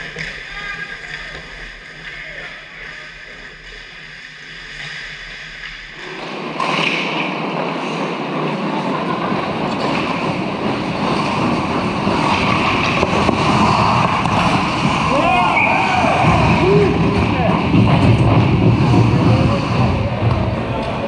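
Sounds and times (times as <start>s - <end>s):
rink noise: 0.0s - 20.8s
skates scraping on ice: 0.0s - 21.0s.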